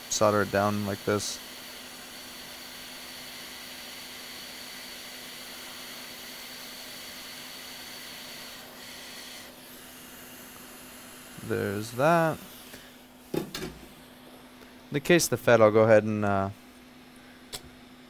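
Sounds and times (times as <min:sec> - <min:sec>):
hot air station hissing: 0:00.0 - 0:15.2.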